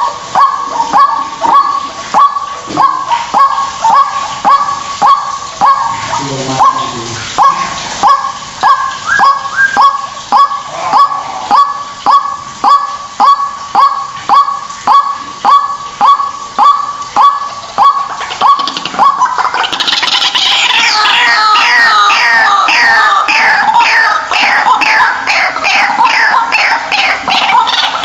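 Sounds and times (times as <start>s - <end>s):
waterhen calling harsh notes: 0.0s - 28.0s.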